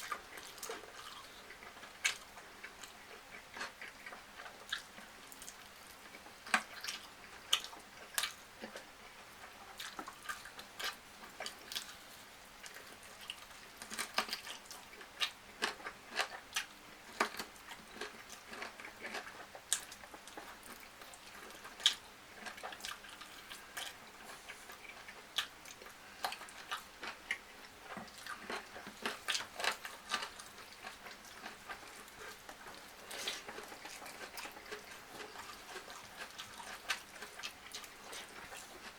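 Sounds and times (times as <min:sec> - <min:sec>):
person chewing and biting food: 0:00.0 - 0:05.9, 0:09.4 - 0:38.9.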